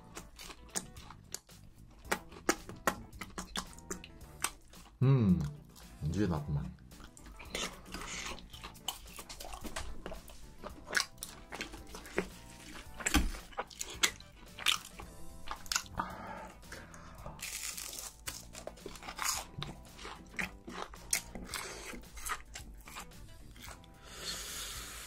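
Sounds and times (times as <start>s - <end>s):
crunching and chewing snack: 0.0s - 6.0s, 7.0s - 24.4s.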